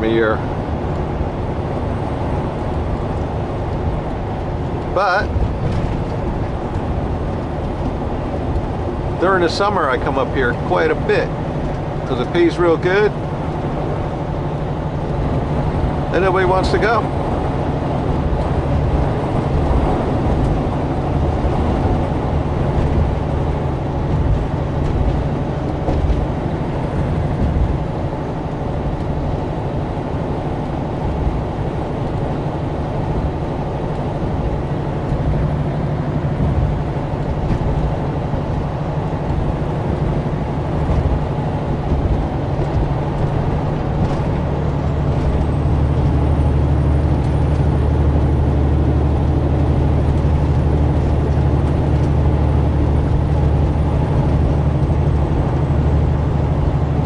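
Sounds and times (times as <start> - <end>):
road rumble: 0.0 - 57.0
truck engine drone: 0.0 - 57.0.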